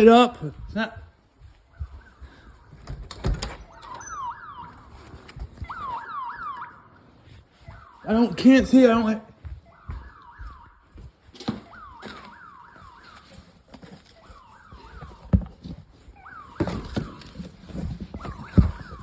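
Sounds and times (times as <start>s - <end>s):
distant alarm siren whooping: 0.0s - 19.0s.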